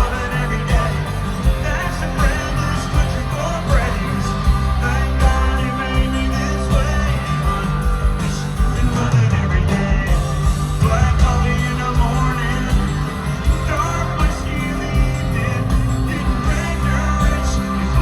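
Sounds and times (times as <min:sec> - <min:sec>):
live country-rock band: 0:00.0 - 0:18.0
person singing: 0:00.0 - 0:18.0.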